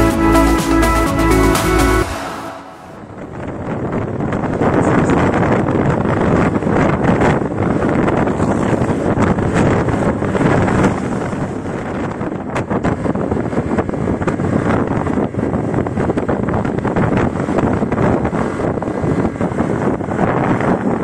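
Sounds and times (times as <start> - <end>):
scooter ride rumble: 3.0 - 21.0
wind buffeting microphone: 3.0 - 21.0.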